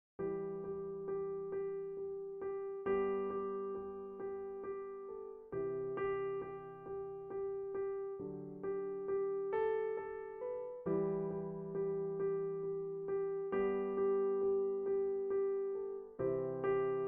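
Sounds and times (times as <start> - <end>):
electric piano chords: 0.2 - 17.0.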